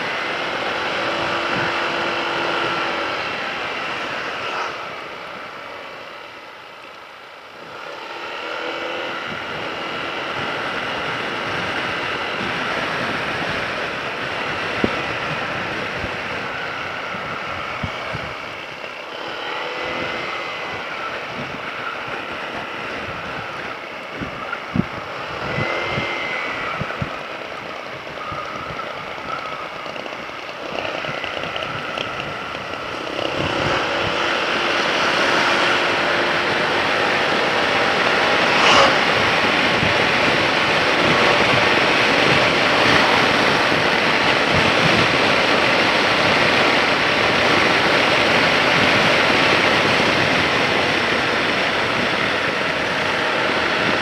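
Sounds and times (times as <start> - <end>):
wind rushing over microphone: 0.0 - 6.8, 7.5 - 54.0
motorcycle engine: 0.0 - 54.0
road noise: 0.0 - 54.0.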